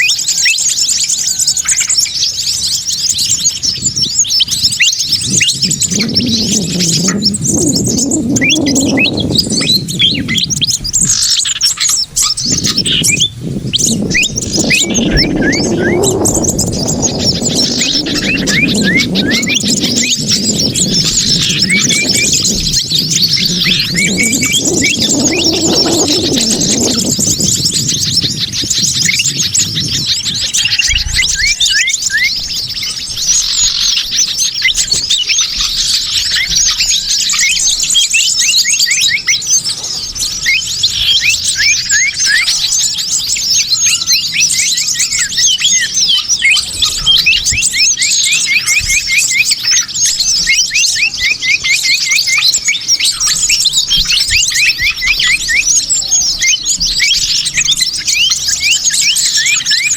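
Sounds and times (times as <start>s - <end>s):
many small birds chirping: 0.0s - 59.9s.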